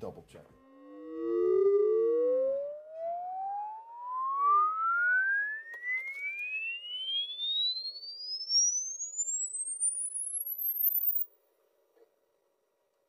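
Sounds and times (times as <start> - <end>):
rising sine test tone: 0.5 - 11.3.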